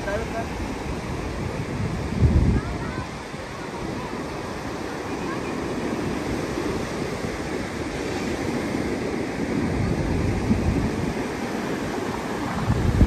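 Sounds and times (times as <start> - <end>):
ocean surf breaking on beach: 0.0 - 13.0
wind buffeting microphone: 0.0 - 13.0.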